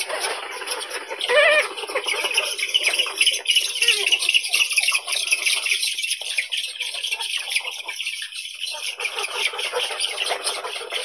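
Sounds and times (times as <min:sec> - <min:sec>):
spoonbill scratchy chatter: 0:00.0 - 0:11.0.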